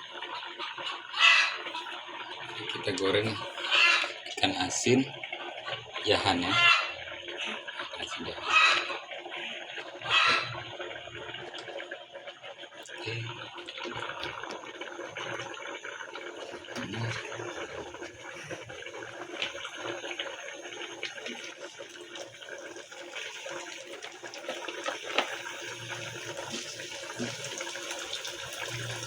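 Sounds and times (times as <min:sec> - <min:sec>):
fish frying with crackling: 0:00.0 - 0:29.0.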